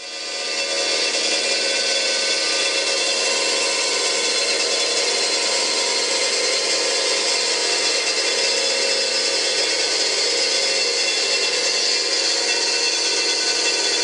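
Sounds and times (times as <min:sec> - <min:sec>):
metal-cutting bandsaw running: 0:00.0 - 0:14.0.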